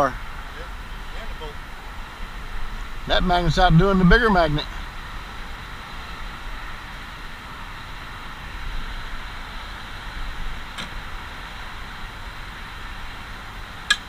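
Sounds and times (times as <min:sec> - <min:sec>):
road traffic hiss and rumble: 0:00.0 - 0:14.0.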